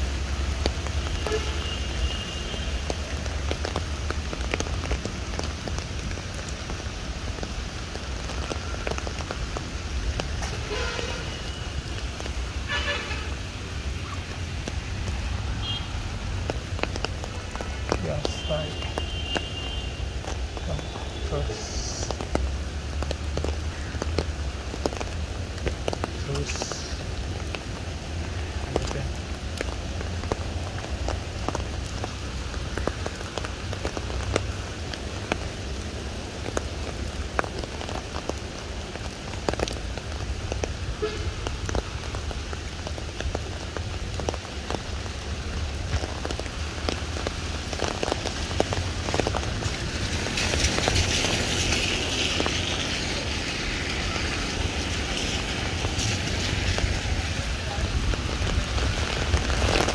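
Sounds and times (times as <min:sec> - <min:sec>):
rain on pavement: 0:00.0 - 0:59.9.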